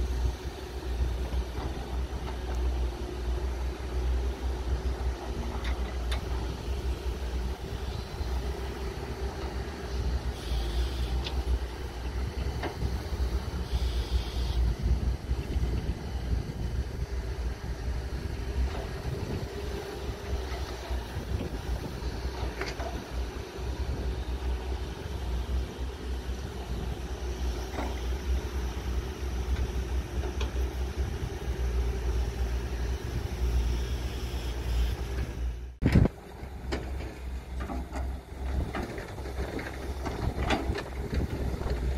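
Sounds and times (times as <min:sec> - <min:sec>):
excavator diesel engines running: 0:00.0 - 0:41.9.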